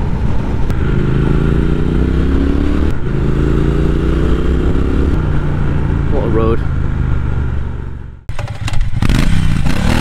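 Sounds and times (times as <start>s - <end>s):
motorcycle engine accelerating: 0.4s - 10.0s.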